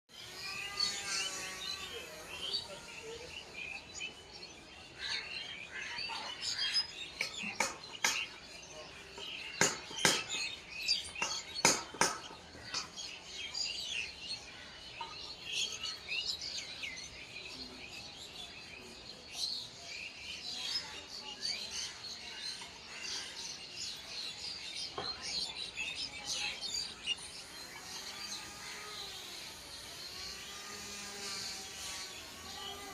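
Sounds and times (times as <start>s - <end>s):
birds chirping: 0.1s - 32.9s.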